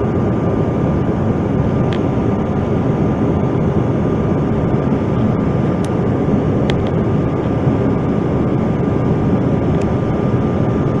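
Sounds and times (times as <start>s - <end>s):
jet engine roar in cabin: 0.0s - 11.0s
thin steady whine: 0.0s - 11.0s.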